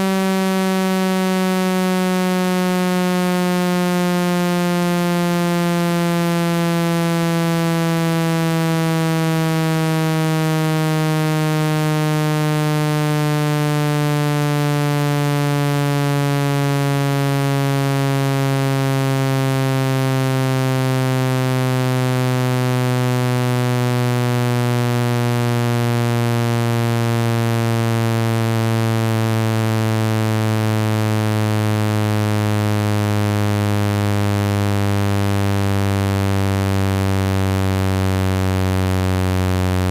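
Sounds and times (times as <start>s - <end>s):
low buzzing tone sliding down: 0.0s - 39.9s.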